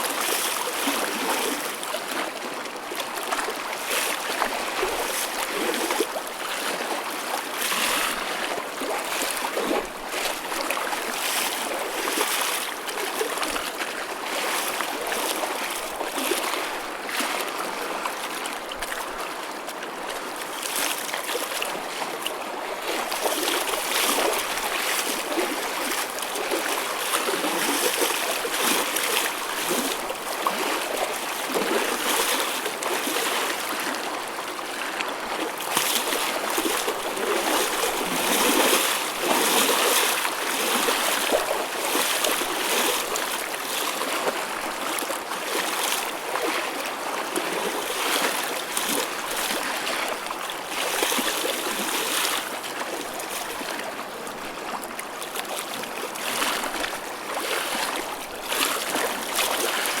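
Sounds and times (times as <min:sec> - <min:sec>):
small water splashes: 0:00.0 - 0:19.2, 0:20.2 - 1:00.0
choppy ocean waves churning: 0:00.0 - 1:00.0.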